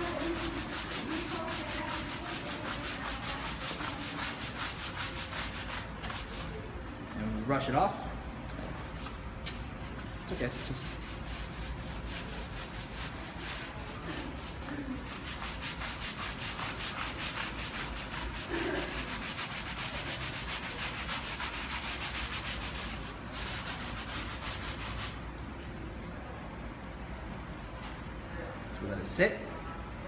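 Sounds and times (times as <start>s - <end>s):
scrub brush scrubbing stucco wall: 0.0s - 7.8s, 8.6s - 25.2s.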